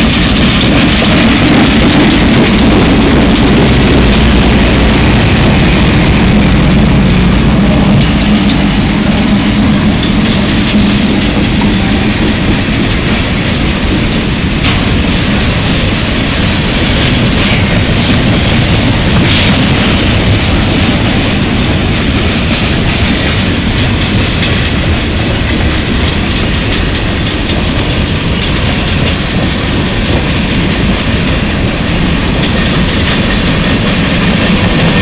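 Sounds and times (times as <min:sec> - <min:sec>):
diesel locomotive engine hum: 0:00.0 - 0:35.0
steel wheels rolling on rails: 0:00.0 - 0:35.0.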